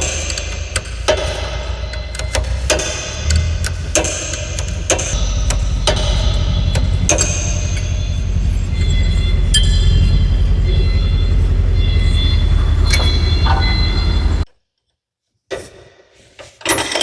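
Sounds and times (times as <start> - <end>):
sharp metallic clinks: 0.0 - 14.4
truck diesel engine rumbling: 0.0 - 14.5.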